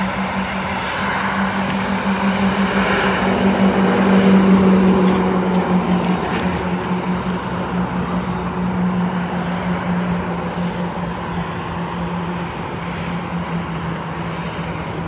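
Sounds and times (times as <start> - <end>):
car passing: 0.0 - 15.0
truck passing: 0.0 - 15.0.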